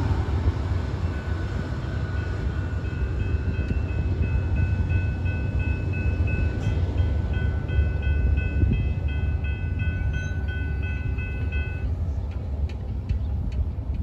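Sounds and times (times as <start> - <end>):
diesel locomotive rumbling: 0.0 - 14.0.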